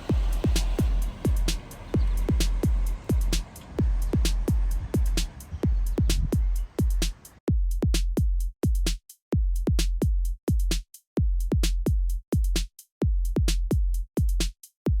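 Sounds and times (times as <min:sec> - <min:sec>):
drum machine beat: 0:00.0 - 0:15.0.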